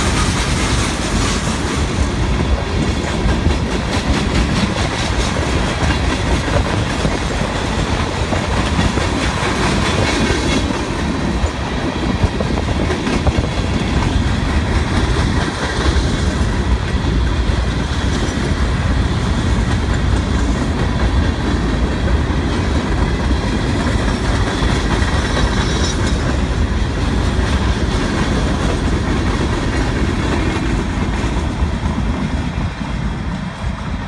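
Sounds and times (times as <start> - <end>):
freight train rumbling: 0.0 - 34.0
steel wheels clacking over rail joints: 0.0 - 34.0.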